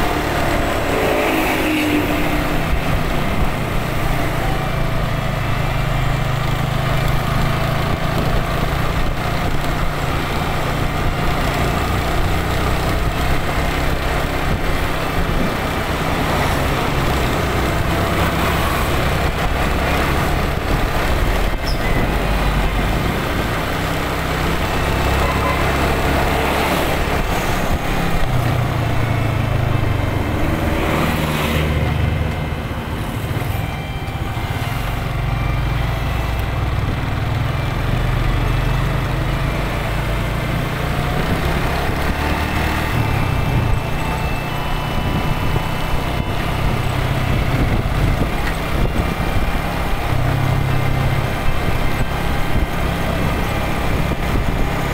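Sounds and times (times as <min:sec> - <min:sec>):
motorcycle engine running: 0:00.0 - 0:30.9, 0:31.6 - 0:54.9
bus passing: 0:00.0 - 0:54.9
truck passing: 0:00.0 - 0:54.9
tyre road noise: 0:00.0 - 0:54.9
wind noise: 0:00.0 - 0:54.9.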